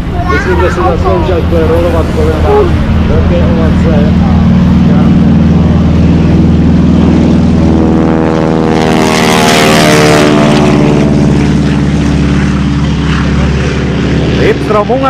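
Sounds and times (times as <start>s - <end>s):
propeller plane passing: 0.0s - 15.0s.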